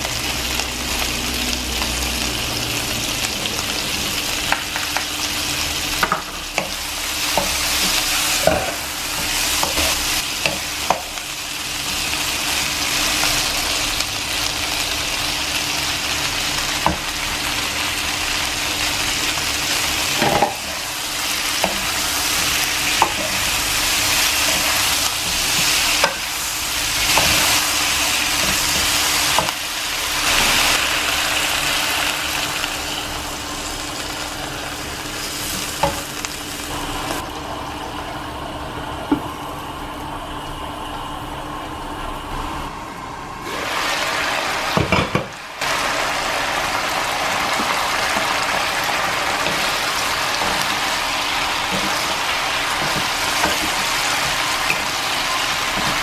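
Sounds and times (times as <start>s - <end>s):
chicken sizzling in a wok: 0.0s - 56.0s.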